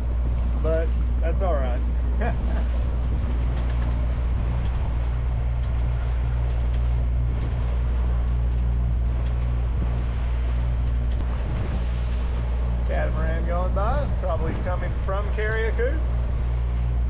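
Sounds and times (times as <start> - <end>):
boat engine droning: 0.0 - 17.0
water rushing: 0.0 - 17.0
wind: 0.0 - 17.0.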